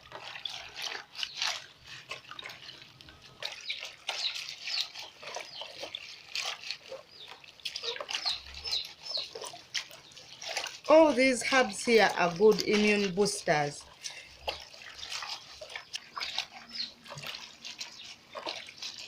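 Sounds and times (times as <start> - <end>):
hands squelching wet leaves: 0.0 - 19.0
water splashing in basin: 0.0 - 19.0.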